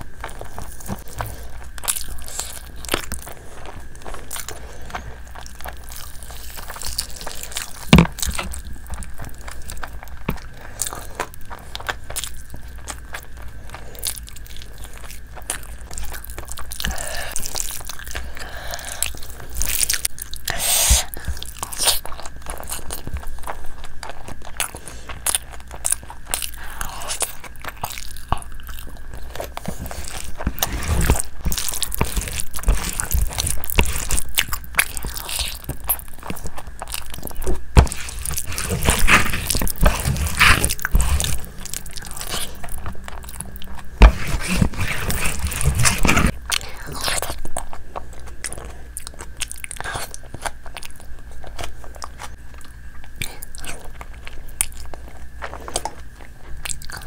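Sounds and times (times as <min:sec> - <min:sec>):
fingers squishing rice and gravy: 0:00.0 - 0:57.0
chewing and mouth smacking: 0:00.1 - 0:57.0.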